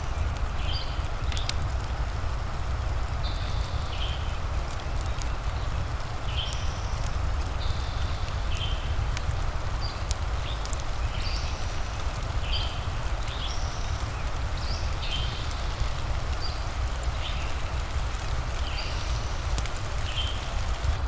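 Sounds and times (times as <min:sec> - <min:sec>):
fireplace crackling: 0:00.0 - 0:21.0
rain hiss: 0:00.0 - 0:21.0.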